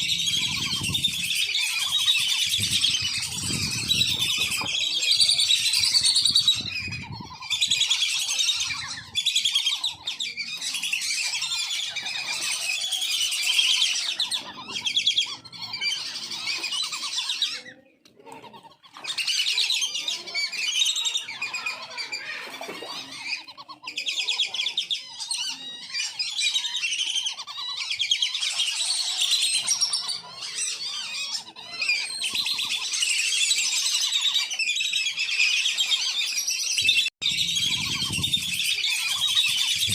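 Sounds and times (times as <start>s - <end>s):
ducks whistling: 0.0s - 17.8s, 18.4s - 39.9s.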